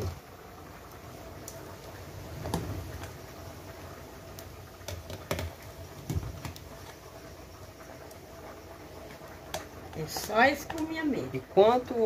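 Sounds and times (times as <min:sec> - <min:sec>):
water boiling: 0:00.0 - 0:12.0.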